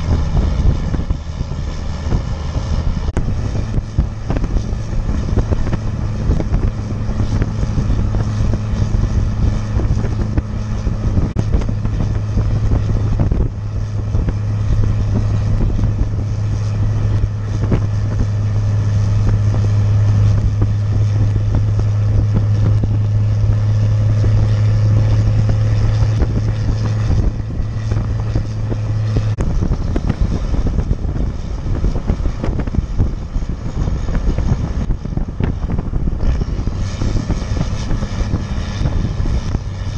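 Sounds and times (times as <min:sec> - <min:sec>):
diesel truck engine under load: 0:00.0 - 0:39.9
wind noise: 0:00.0 - 0:39.9.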